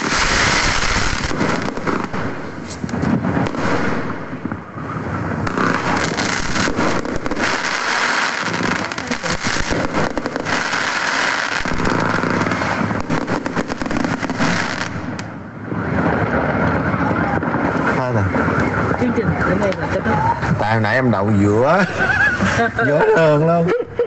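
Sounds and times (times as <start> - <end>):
fireworks crackling and popping: 0.0 - 23.6.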